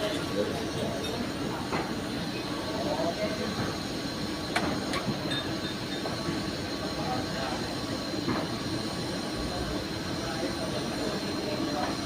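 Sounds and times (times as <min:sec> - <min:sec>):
welding arc hissing and humming: 0:00.0 - 0:12.0.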